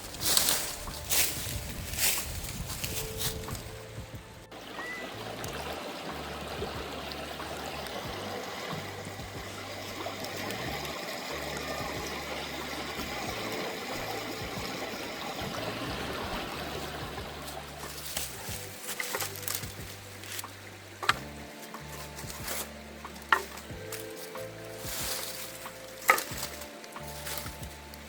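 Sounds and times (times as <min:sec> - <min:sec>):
trickling stream: 0:00.0 - 0:28.0.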